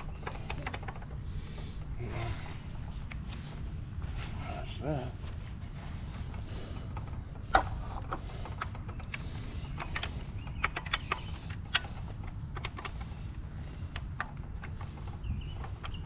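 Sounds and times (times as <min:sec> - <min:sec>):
clicks and knocks of strap fittings: 0:00.0 - 0:04.0, 0:05.2 - 0:16.0
steady low rumble: 0:00.0 - 0:16.0.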